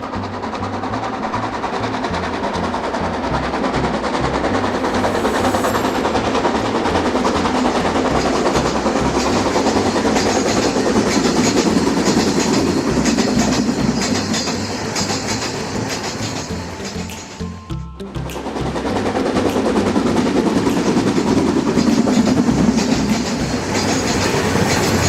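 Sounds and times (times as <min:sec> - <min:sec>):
toy train wheels clattering: 0:00.0 - 0:17.5, 0:18.8 - 0:25.0.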